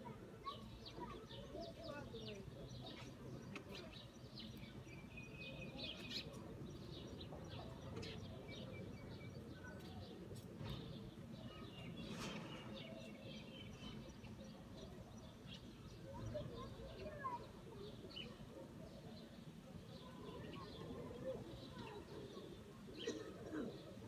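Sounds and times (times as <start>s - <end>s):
birds chirping: 0.4s - 24.0s.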